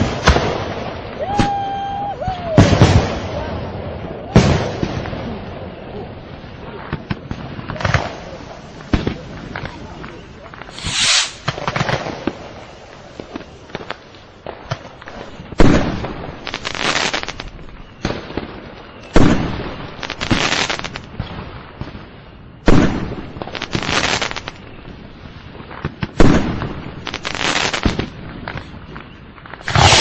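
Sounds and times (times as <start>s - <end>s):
crackling firework bursts: 0.0s - 30.0s
firework bangs: 0.0s - 30.0s.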